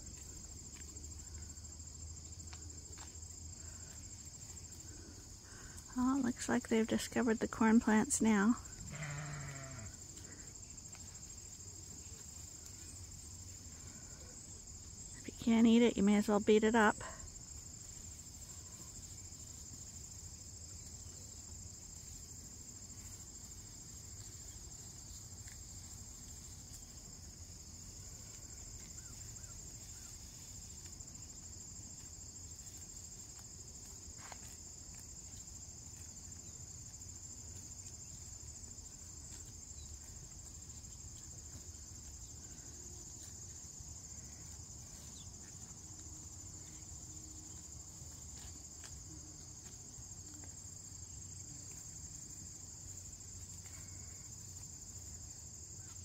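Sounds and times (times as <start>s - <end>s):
crickets and insects chirping: 0.0s - 56.0s.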